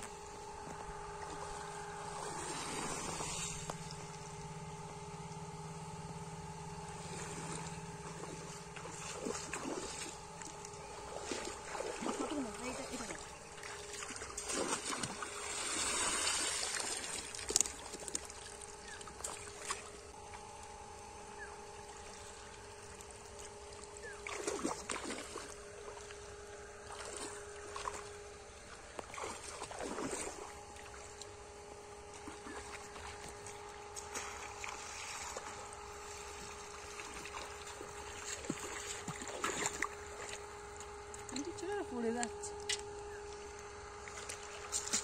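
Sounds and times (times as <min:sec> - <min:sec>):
faint steady hum: 0:00.0 - 0:45.0
muddy water splashing: 0:00.6 - 0:04.5, 0:06.8 - 0:20.1, 0:21.4 - 0:45.0.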